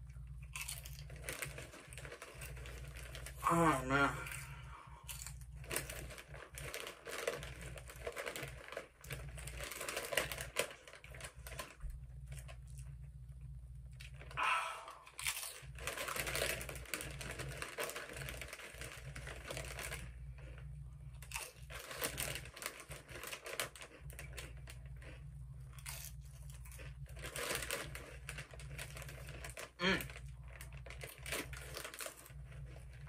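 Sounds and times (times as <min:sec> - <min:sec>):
chips crunching when chewed: 0:00.0 - 0:33.0
plastic bag crinkling: 0:00.2 - 0:13.1, 0:13.9 - 0:33.0.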